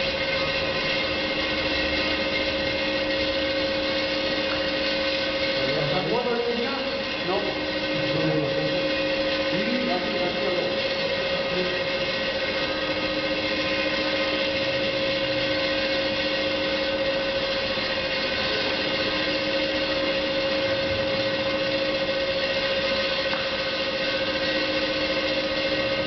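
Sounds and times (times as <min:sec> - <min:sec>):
roaster machine humming: 0:00.0 - 0:26.0.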